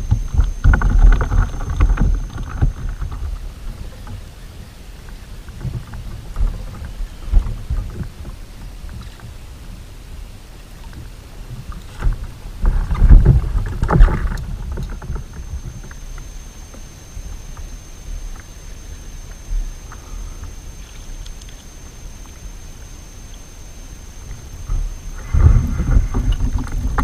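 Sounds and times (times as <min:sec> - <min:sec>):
low rumble: 0:00.0 - 0:27.0
water movement: 0:00.0 - 0:27.0.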